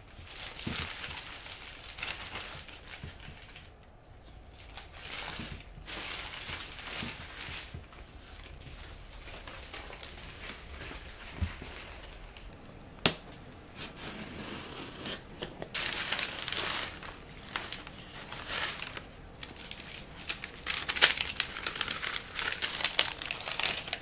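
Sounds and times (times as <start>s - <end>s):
packing paper rustling: 0.0s - 12.5s, 13.7s - 24.0s.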